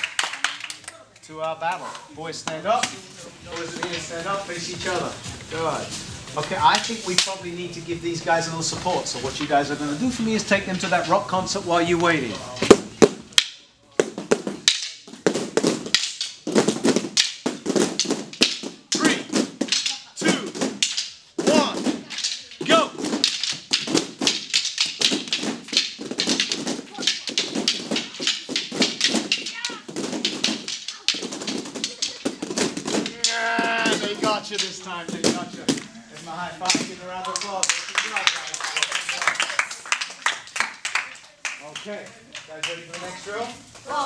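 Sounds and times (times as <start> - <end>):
sticks clattering: 1.7 - 39.6.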